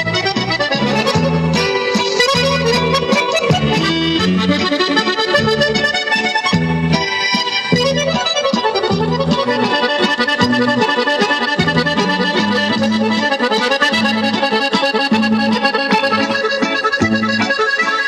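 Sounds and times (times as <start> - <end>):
accordion music: 0.0 - 18.0.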